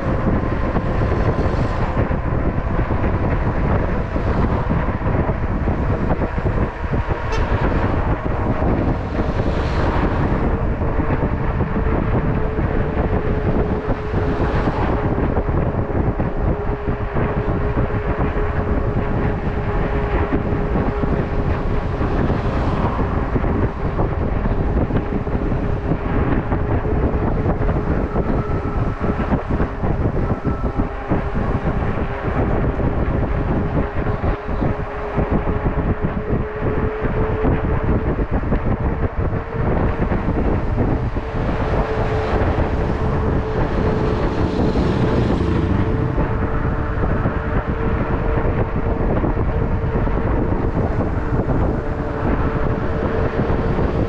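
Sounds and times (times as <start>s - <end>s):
steady whine: 0.0s - 54.0s
wind buffeting microphone: 0.0s - 54.0s.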